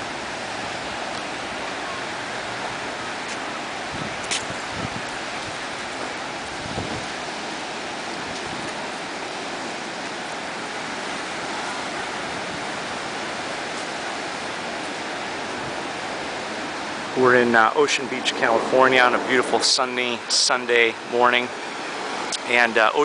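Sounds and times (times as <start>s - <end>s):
ocean surf rushing: 0.0s - 23.0s.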